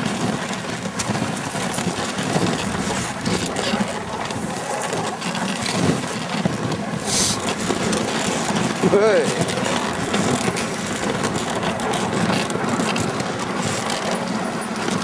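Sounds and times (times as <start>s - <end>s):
sled runners hissing on snow: 0.1s - 15.0s
wind buffeting microphone: 0.8s - 15.0s.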